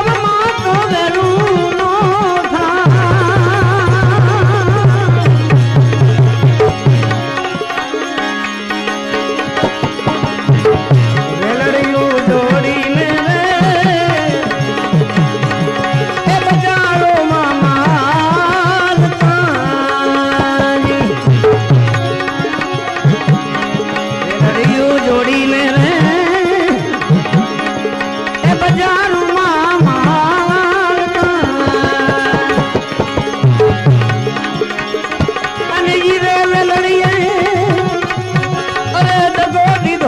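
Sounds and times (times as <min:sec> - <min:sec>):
hand drums rhythm: 0:01.3 - 0:08.2, 0:08.8 - 0:24.8, 0:25.4 - 0:35.8.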